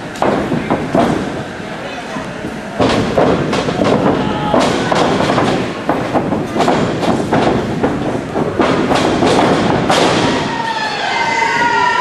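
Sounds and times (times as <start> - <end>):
crowd noise in hall: 0.0 - 12.0.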